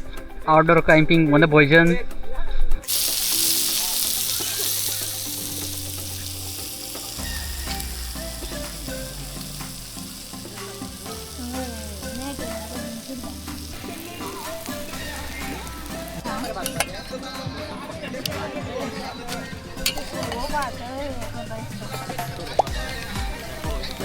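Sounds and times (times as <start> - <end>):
food sizzling in a pan: 2.8 - 24.0.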